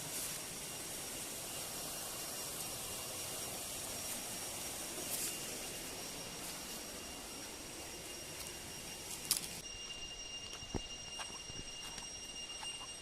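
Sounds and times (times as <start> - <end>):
thin steady high tone: 0.0 - 13.0.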